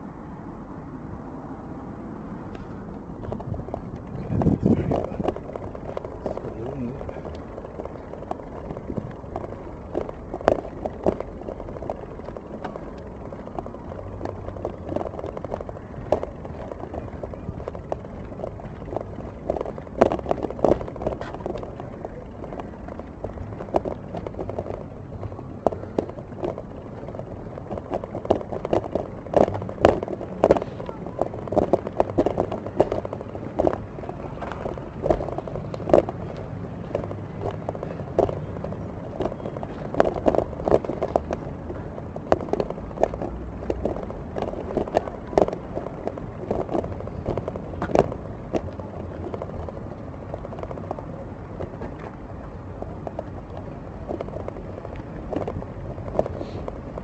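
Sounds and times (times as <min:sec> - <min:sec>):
wheels rolling over paving slabs: 0:00.0 - 0:57.0.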